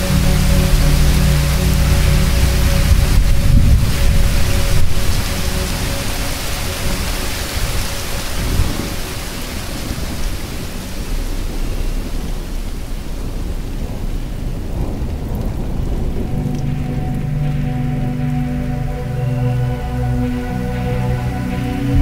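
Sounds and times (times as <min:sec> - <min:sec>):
deep rumble of thunder: 0:00.0 - 0:19.0
steady rain: 0:00.0 - 0:22.0.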